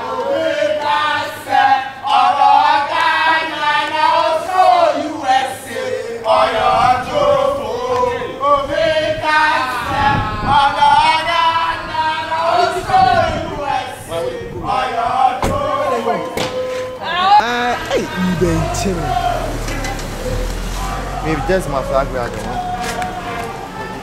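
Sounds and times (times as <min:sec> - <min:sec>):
football fans chanting: 0:00.0 - 0:16.4, 0:17.0 - 0:24.0.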